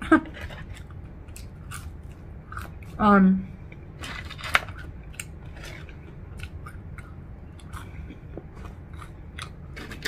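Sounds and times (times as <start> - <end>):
low hum: 0.0 - 10.0
crunchy fries being chewed: 0.3 - 3.0, 3.7 - 10.0.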